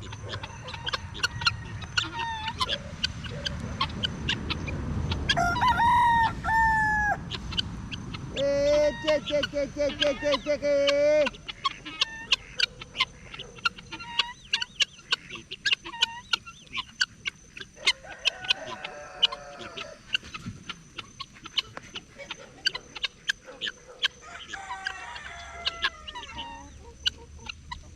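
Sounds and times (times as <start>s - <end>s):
chickens clucking: 0.0s - 27.9s.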